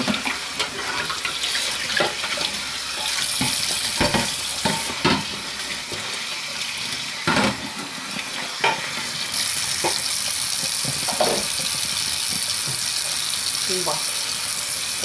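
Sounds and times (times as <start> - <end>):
tap running into metal sink: 0.0 - 6.2, 6.8 - 13.2.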